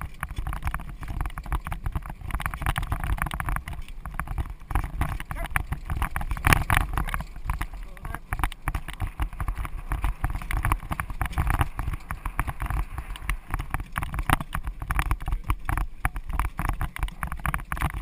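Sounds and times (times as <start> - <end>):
carriage rattles and knocks: 0.0 - 18.0
pony hoofbeats: 0.0 - 18.0
wheels rumbling on ground: 0.0 - 18.0.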